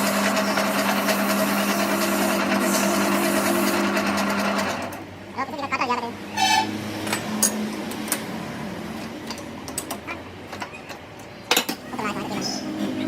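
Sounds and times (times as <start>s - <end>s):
workshop machine humming: 0.0s - 5.5s, 6.1s - 13.0s.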